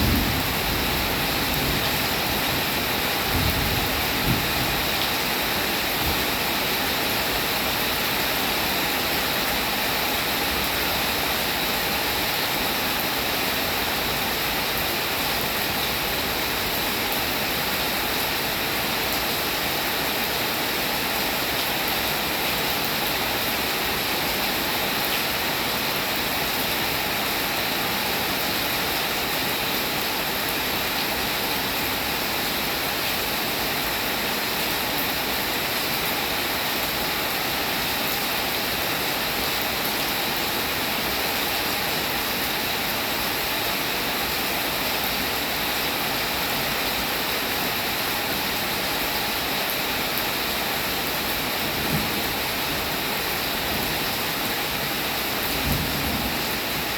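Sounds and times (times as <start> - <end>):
steady rain hissing: 0.0 - 56.9.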